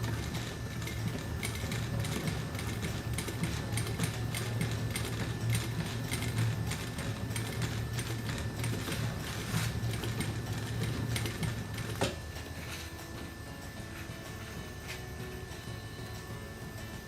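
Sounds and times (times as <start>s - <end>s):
sewing machine stitching: 0.0s - 16.2s.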